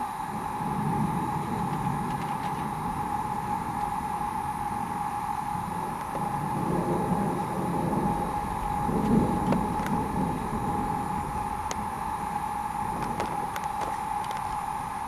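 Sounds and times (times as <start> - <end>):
high-pitched drone: 0.0 - 15.0
low rumble: 0.2 - 15.0.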